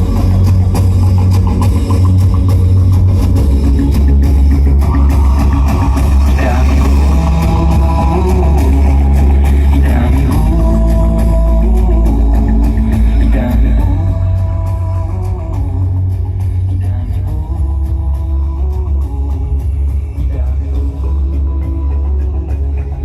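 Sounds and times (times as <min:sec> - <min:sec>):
loud rock song with deep bass: 0:00.0 - 0:23.0.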